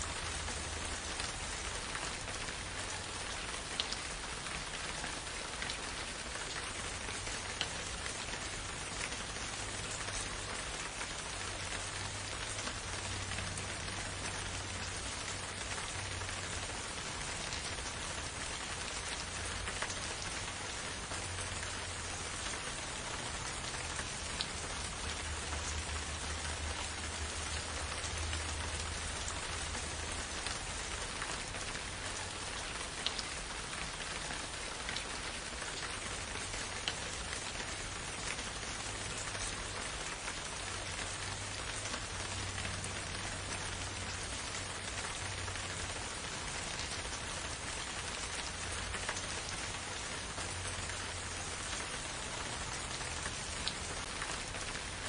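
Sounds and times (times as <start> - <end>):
steady rain falling: 0.0 - 55.0
sharp raindrop ticks: 0.1 - 4.9, 6.4 - 54.8.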